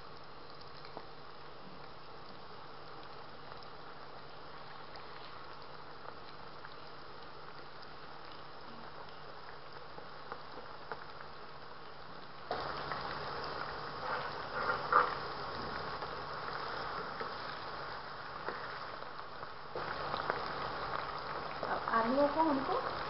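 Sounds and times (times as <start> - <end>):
potatoes deep-frying in oil: 0.0 - 23.0.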